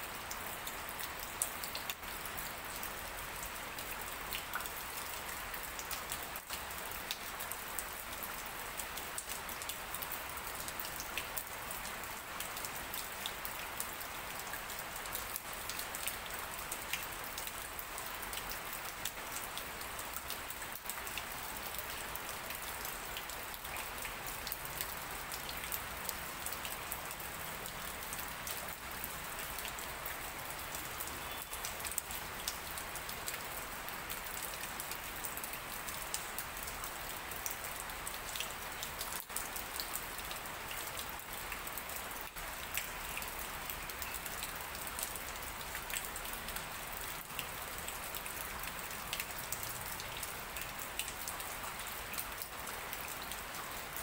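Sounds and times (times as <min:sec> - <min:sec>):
light rain on leaves: 0:00.0 - 0:54.0.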